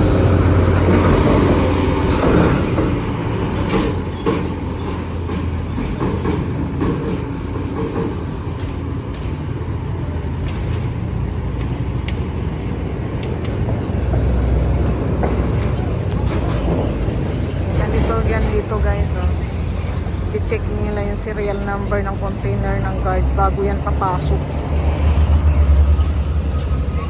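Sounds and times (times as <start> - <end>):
diesel truck engines rumbling: 0.0 - 27.0.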